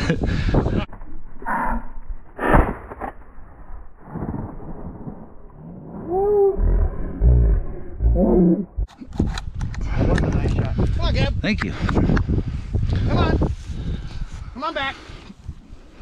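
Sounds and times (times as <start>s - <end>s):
wind rumble on microphone: 0.0s - 1.3s, 4.0s - 16.0s.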